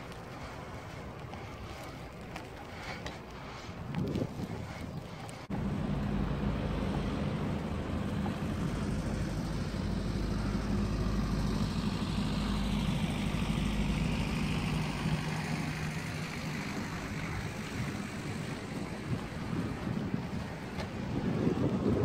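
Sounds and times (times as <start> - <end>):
wind on microphone: 0.0 - 5.5, 7.5 - 22.0
vehicle engine humming: 0.0 - 22.0.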